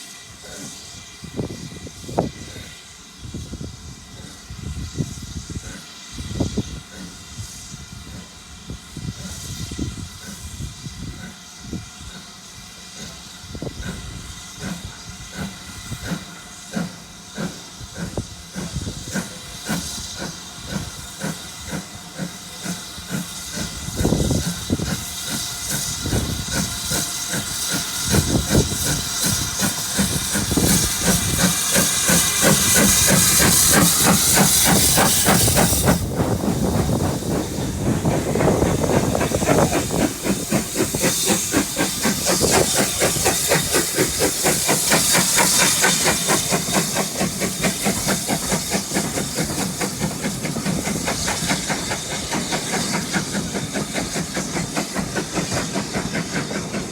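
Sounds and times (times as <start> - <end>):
loud steam hiss: 0.0 - 56.9
steam locomotive exhaust beats: 0.0 - 56.9.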